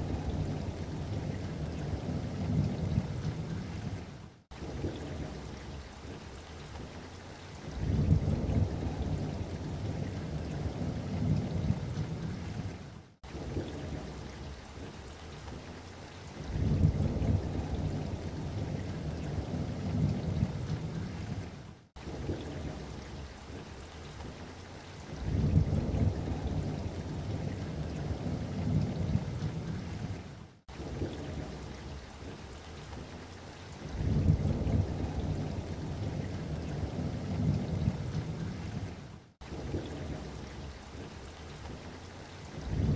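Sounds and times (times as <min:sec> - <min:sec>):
low rolling thunder: 0:00.0 - 0:06.2, 0:07.7 - 0:15.0, 0:16.4 - 0:23.7, 0:25.1 - 0:33.1, 0:33.8 - 0:41.9, 0:42.5 - 0:42.9
rain patter: 0:00.0 - 0:42.9.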